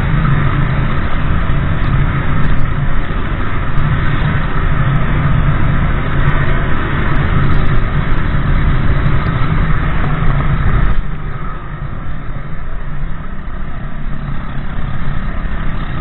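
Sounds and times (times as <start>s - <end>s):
motorbike engine drone: 0.0s - 16.0s.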